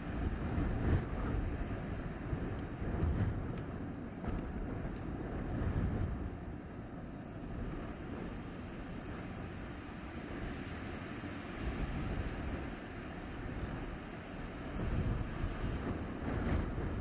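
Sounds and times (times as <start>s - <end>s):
blizzard wind gusting: 0.0s - 17.0s.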